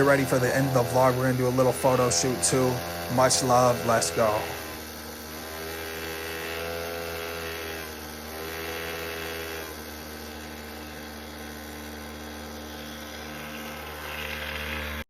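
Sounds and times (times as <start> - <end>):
mini bike engine running: 0.0 - 15.0.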